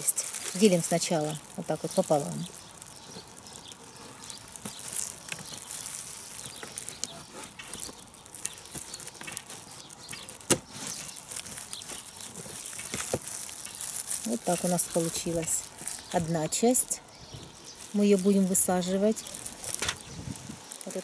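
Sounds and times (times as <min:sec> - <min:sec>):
plastic gloves rustling: 0:00.0 - 0:21.0.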